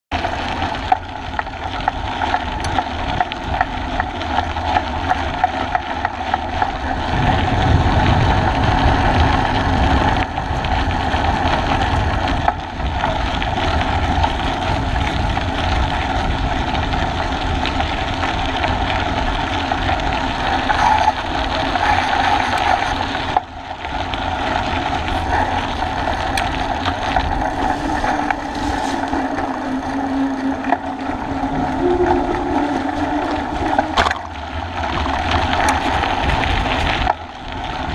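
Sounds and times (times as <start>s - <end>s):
bicycle riding rumble: 0.1s - 37.9s.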